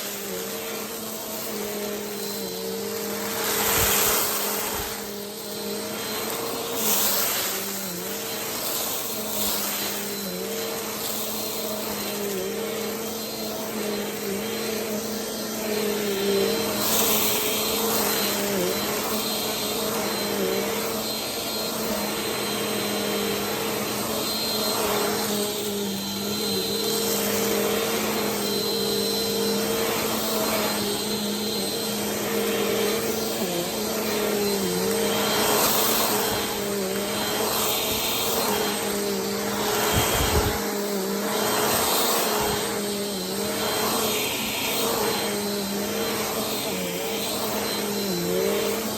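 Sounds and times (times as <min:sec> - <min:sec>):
vacuum cleaner running: 0:00.0 - 0:48.9.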